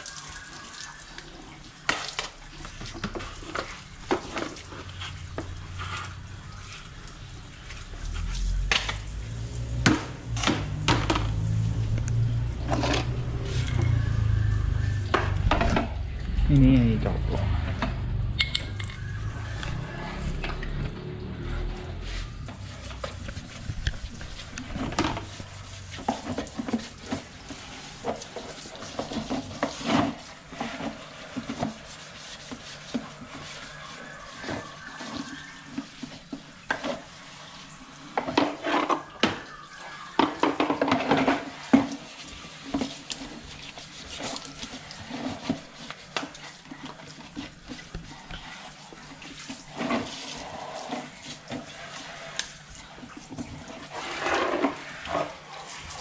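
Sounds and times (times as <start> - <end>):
things clattering while washed: 0.0 - 56.0
water splashing: 0.0 - 56.0.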